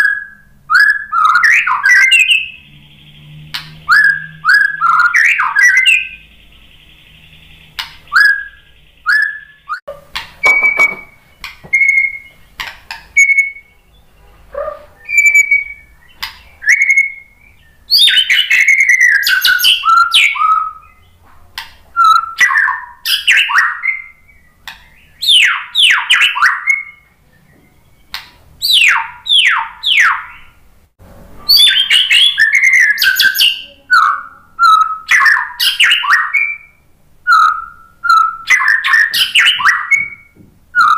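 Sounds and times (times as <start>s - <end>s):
bird singing whistled notes: 0.0s - 9.8s, 10.4s - 12.4s, 13.1s - 21.2s, 22.0s - 30.6s, 31.4s - 40.9s.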